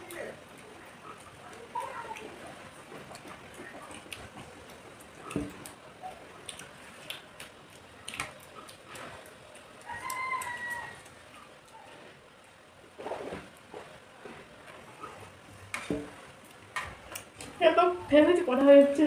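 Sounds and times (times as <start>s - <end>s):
chewing: 0.0s - 17.6s.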